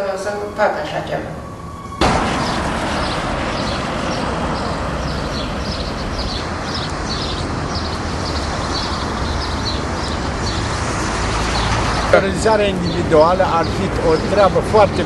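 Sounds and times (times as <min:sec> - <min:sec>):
traffic rushing: 0:00.0 - 0:15.0
small birds chirping: 0:01.9 - 0:15.0.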